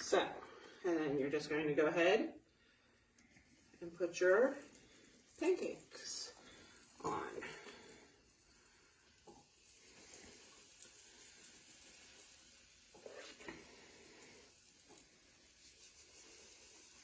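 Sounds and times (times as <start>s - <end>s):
batter sizzling on griddle: 1.4s - 17.0s.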